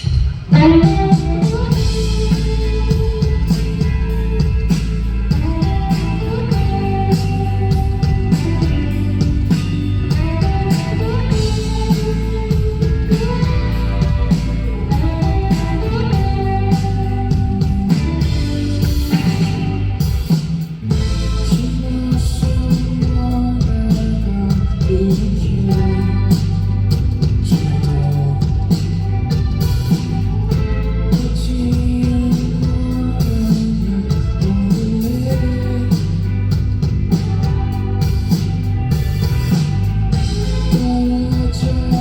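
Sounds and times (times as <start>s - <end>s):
rock band playing live: 0.0s - 42.0s
electric guitar melody: 0.4s - 42.0s.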